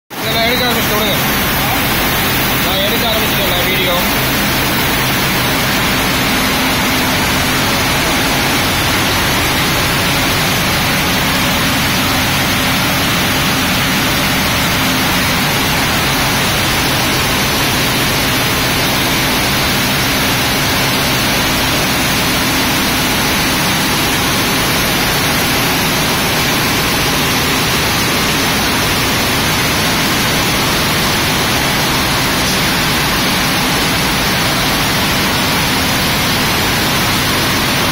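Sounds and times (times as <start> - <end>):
machine mechanical din: 0.2 - 37.9.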